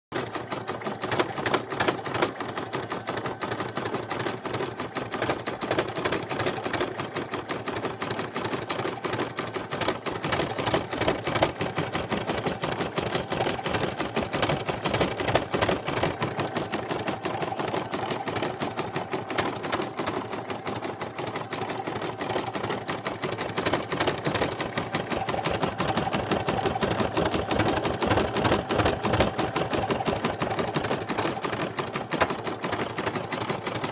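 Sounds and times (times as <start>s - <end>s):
embroidery machine stitching: 0.1s - 33.9s.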